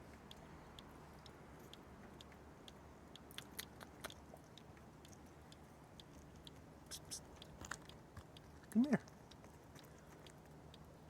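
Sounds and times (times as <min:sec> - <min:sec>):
faint clicks and ticks: 0:00.0 - 0:11.0.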